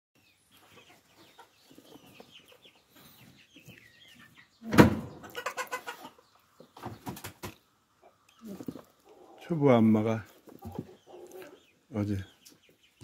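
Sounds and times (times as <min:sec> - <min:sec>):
chickens clucking: 0:00.2 - 0:13.0.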